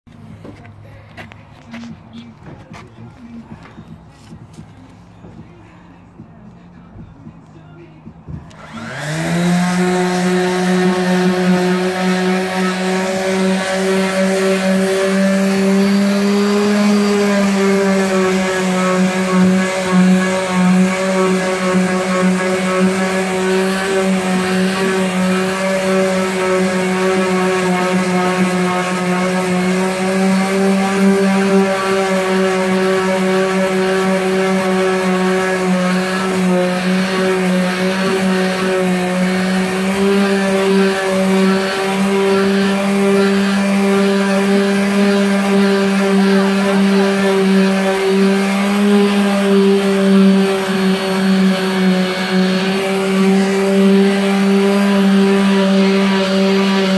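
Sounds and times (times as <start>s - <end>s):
electric sander on metal: 8.1s - 56.9s.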